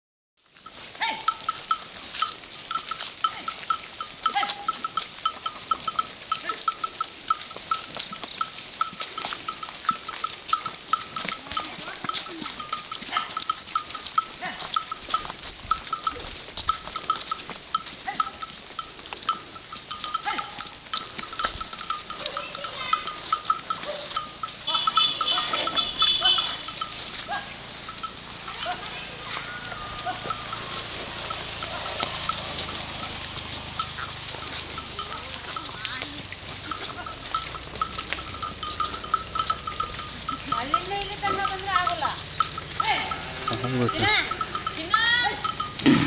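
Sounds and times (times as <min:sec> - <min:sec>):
bell clanking: 0:00.6 - 0:46.0.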